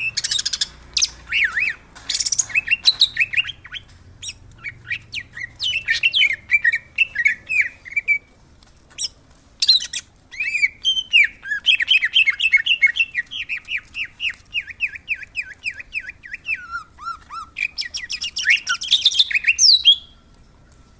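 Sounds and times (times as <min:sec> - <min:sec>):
bird singing: 0:00.0 - 0:08.3, 0:09.0 - 0:20.3.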